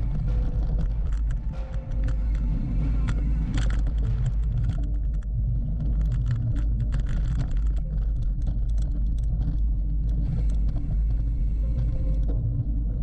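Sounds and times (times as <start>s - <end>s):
bicycle clicks and rattles: 0.0s - 11.2s
wind rumbling on microphone: 0.0s - 13.0s.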